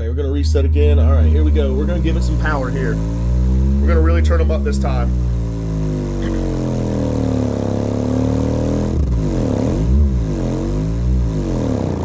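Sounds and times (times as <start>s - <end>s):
low bass tone sweeping: 0.0s - 12.0s.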